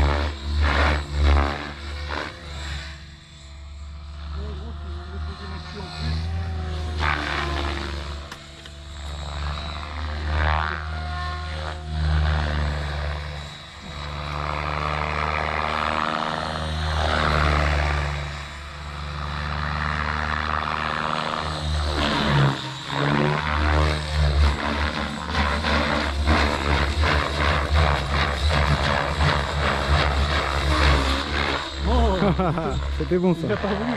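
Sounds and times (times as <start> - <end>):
model helicopter rotor whine: 0.0 - 33.9.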